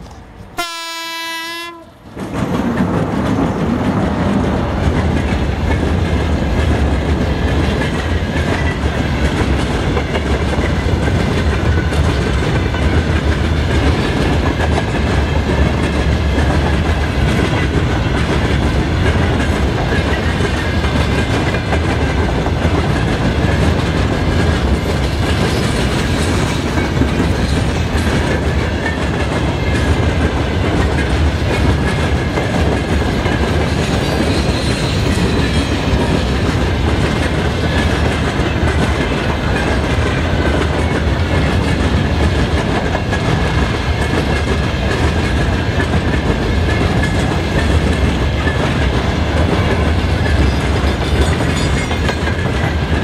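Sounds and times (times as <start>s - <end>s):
freight train passing at speed: 0.0s - 53.0s
steel wheels clattering on rails: 2.1s - 53.0s.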